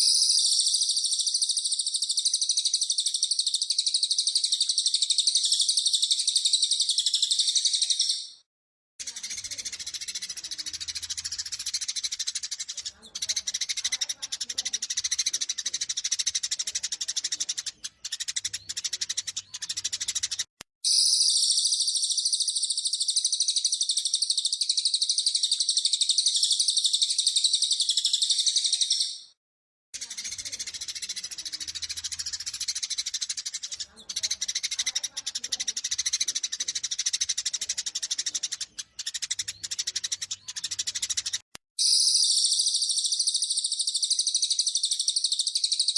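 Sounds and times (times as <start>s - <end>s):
high twittering: 0.0s - 8.4s, 9.0s - 29.4s, 30.0s - 45.9s
sparrows chattering: 0.0s - 29.4s, 30.0s - 45.9s.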